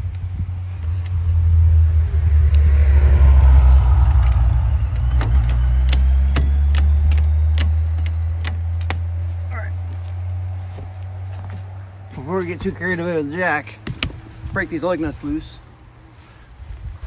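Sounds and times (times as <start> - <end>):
vehicle engine passing: 0.0 - 16.6.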